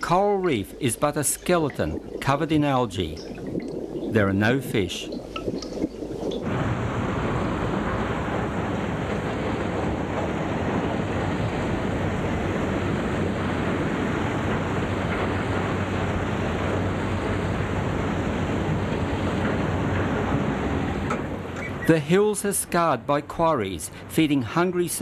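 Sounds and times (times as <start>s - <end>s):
sea surf: 0.0s - 25.0s
wind: 0.0s - 25.0s.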